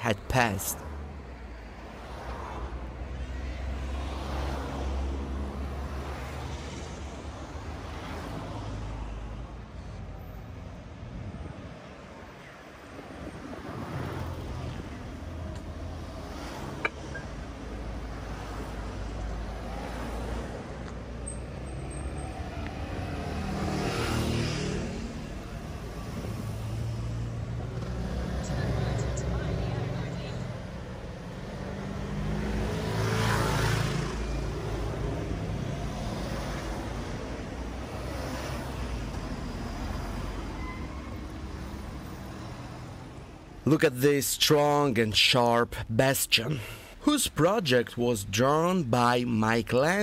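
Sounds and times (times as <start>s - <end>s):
cars and scooters passing: 0.0s - 50.0s.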